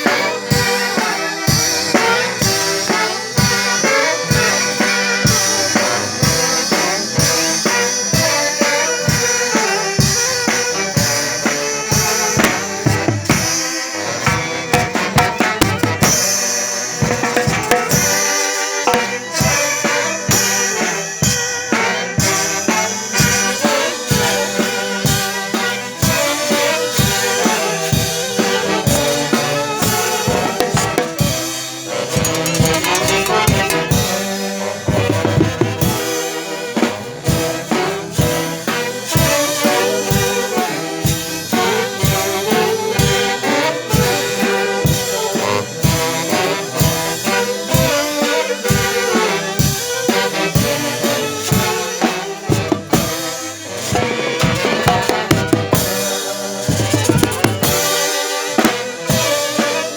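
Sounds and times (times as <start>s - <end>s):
brass horns: 0.0s - 59.9s
drum kit beat: 0.0s - 59.9s.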